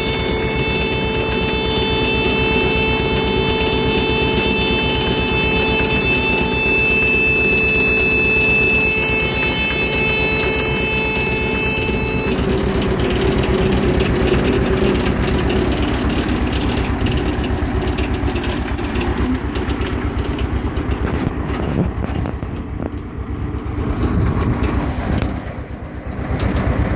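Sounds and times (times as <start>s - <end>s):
high whining tones: 0.0s - 24.0s
round baler low pulsing: 0.0s - 26.9s
tractor engine running: 0.0s - 26.9s.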